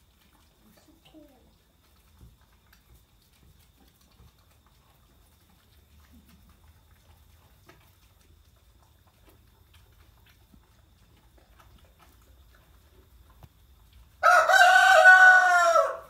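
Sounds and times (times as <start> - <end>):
faint small clicks and rustles: 0.0 - 14.2.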